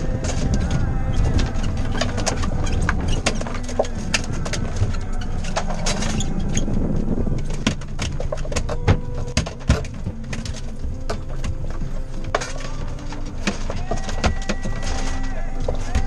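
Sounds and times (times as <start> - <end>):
clicks and knocks on boat: 0.0 - 16.0
outboard motor idling: 0.0 - 16.0.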